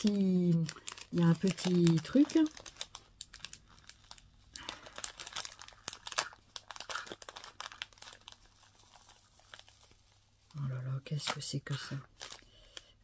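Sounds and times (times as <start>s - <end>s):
gift pouch crinkling and rustling: 0.0s - 13.0s.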